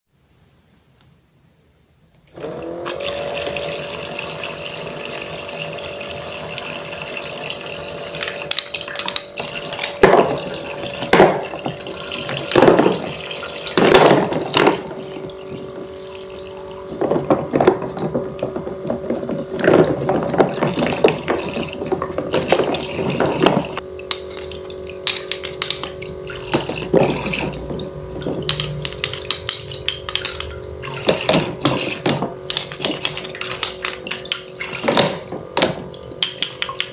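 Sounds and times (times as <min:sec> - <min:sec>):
steady hum: 0:00.2 - 0:36.9
water running from faucet: 0:02.4 - 0:36.9
water splashing: 0:03.1 - 0:36.9.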